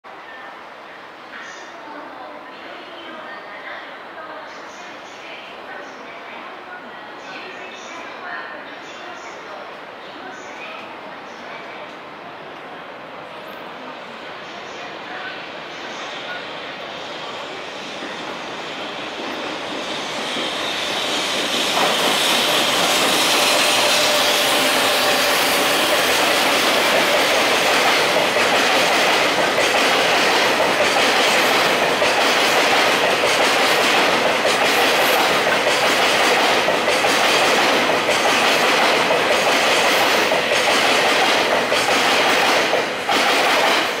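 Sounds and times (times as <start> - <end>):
freight train passing: 3.2 - 44.0.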